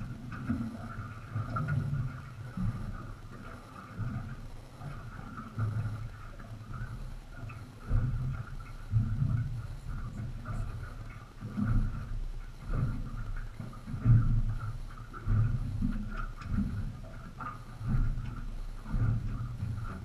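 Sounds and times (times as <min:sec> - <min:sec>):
water slapping against boat hull: 0:00.0 - 0:20.0.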